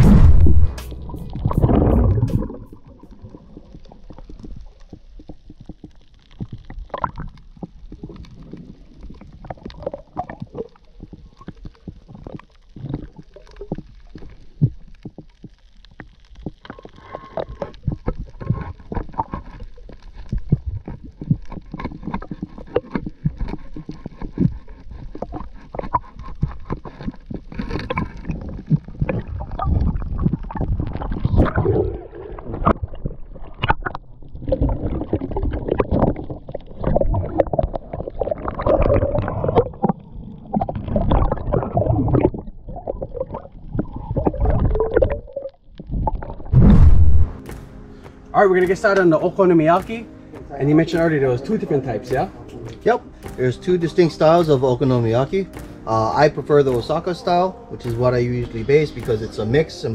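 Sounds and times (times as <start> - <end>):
underwater gurgling and sloshing: 0.0 - 59.9
underwater clicks and knocks: 0.3 - 51.5.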